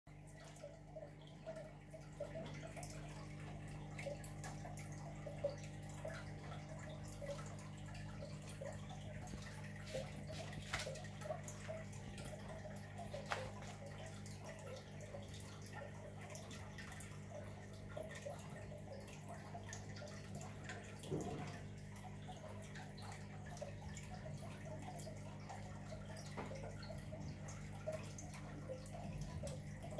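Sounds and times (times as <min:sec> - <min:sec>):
water pump humming: 0:00.1 - 0:29.9
water trickling: 0:00.1 - 0:29.9.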